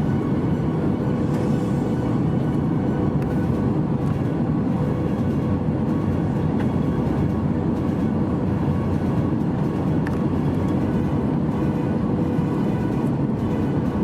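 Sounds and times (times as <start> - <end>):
airliner cabin engine roar: 0.0 - 14.0.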